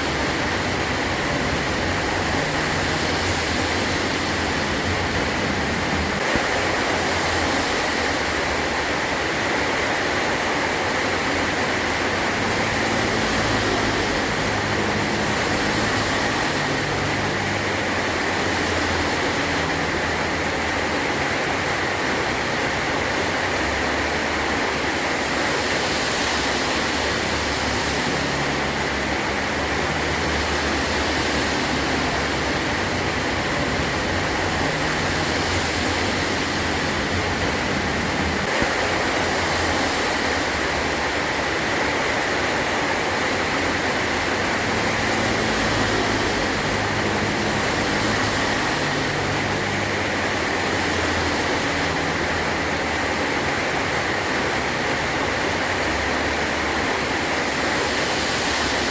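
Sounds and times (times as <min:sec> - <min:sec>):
heavy rain on a tin roof: 0:00.0 - 0:58.9.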